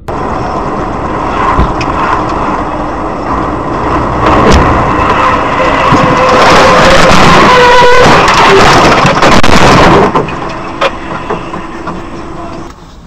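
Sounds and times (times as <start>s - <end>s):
engine and road noise: 0.0s - 13.0s.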